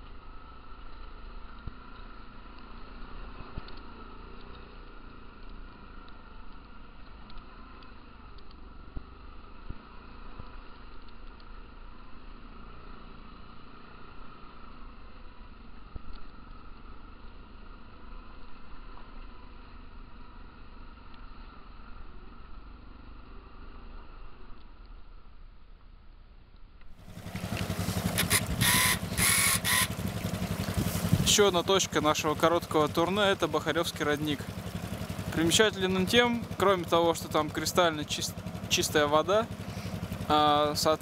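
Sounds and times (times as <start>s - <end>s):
quad engine running: 0.0s - 24.6s, 27.0s - 41.0s.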